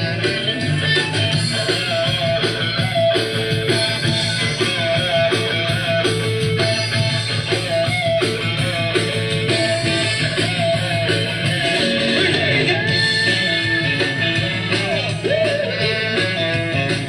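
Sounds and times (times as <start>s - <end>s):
bass: 0.0s - 17.0s
drum kit: 0.0s - 17.0s
electric guitar riff: 0.0s - 17.0s.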